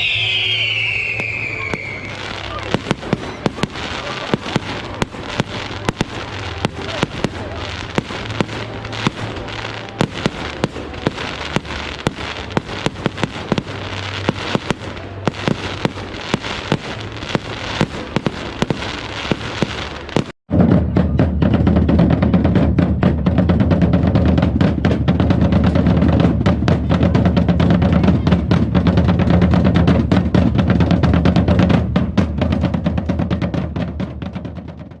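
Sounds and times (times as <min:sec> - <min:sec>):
fireworks cracking and banging: 0:00.0 - 0:35.0
heavy rumble: 0:01.0 - 0:35.0.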